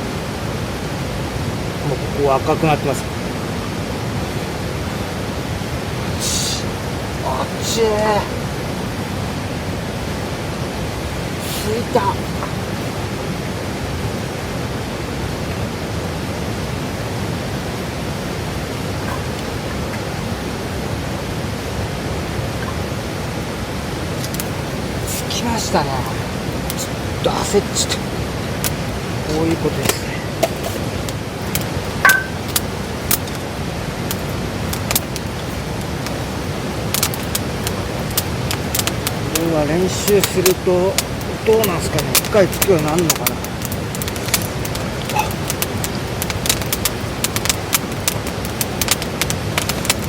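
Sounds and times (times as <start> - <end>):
steady hiss: 0.0 - 50.0
steady rushing noise: 0.0 - 50.0
fire crackling and popping: 1.7 - 50.0.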